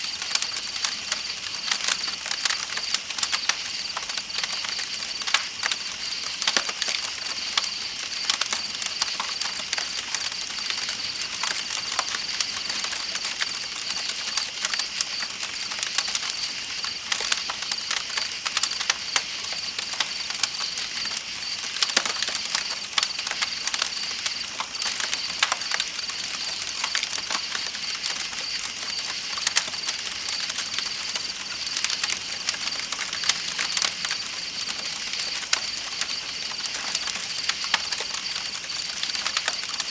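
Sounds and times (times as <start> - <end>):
night insects chirring: 0.0 - 39.9
campfire crackling and popping: 0.1 - 39.9.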